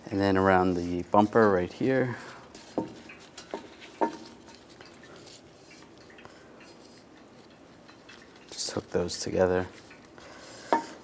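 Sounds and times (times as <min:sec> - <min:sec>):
strap rustling: 0:01.0 - 0:11.0.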